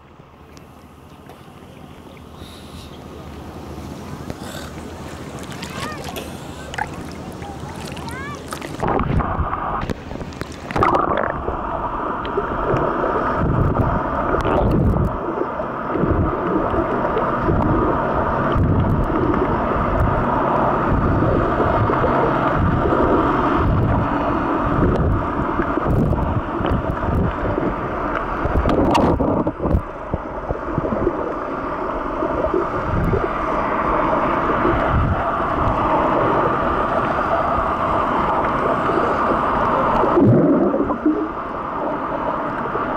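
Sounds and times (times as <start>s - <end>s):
faint steady hum: 0.0s - 42.9s
muffled water sloshing and gurgling: 0.0s - 42.9s.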